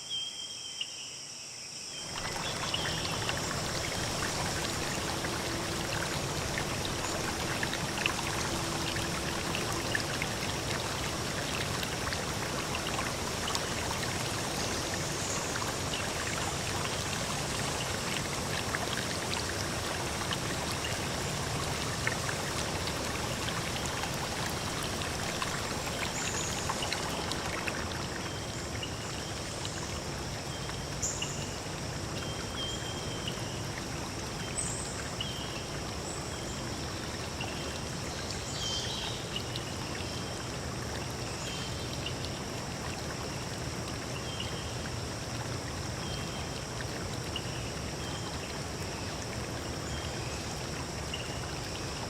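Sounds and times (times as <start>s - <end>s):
running water rushing: 2.0s - 52.0s
small splashes and drips: 2.0s - 52.0s.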